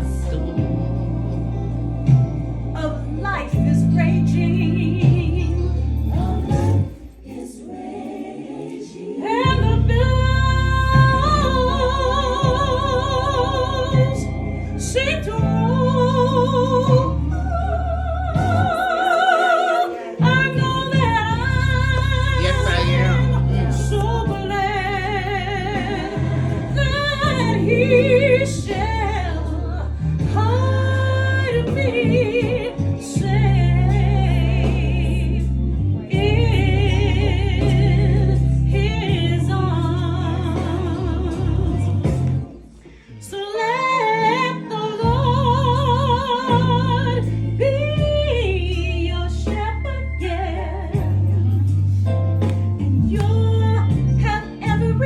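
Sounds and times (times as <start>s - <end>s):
gospel singing with vibrato: 0.0s - 55.0s
steady bass accompaniment: 0.0s - 55.0s.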